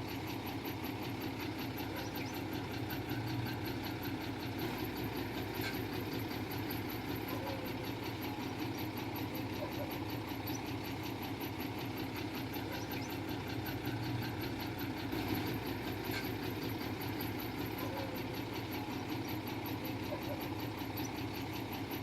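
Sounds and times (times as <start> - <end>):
diesel engine running at low revs: 0.0 - 22.0.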